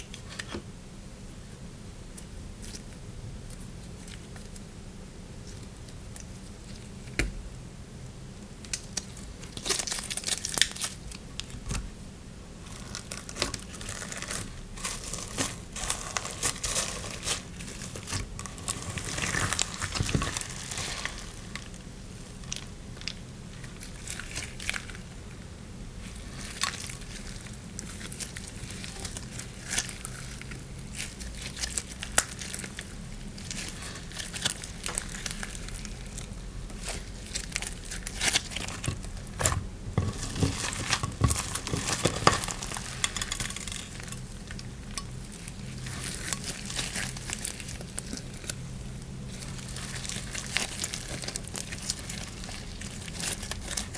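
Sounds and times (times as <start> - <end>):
slime crackling and popping: 8.6 - 11.9, 12.6 - 25.4, 26.0 - 53.9.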